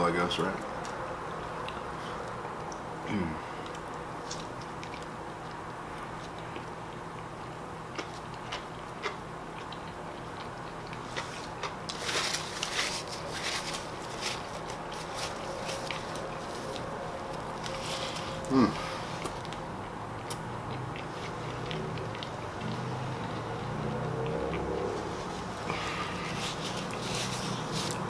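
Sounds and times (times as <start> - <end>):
crunching while chewing: 3.5 - 23.4, 24.2 - 28.0.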